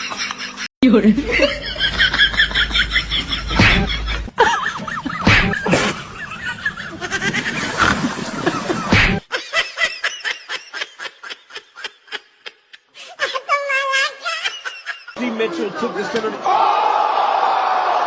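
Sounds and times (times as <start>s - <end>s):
people laughing: 0.0s - 18.0s.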